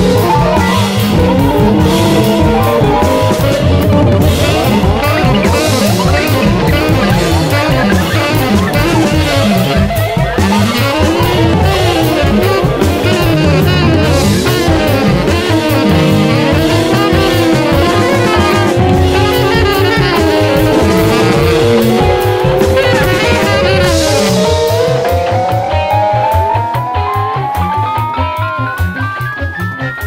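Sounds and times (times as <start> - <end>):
tenor saxophone: 0.0 - 29.0
busy drum beat: 0.0 - 29.2
electric guitar: 0.0 - 30.0
keyboards: 0.0 - 30.0.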